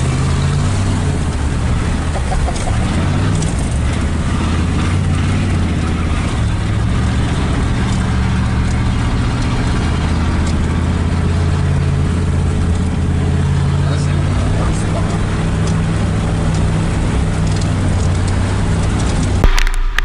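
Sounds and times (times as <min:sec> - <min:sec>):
pickup truck engine droning: 0:00.0 - 0:20.0.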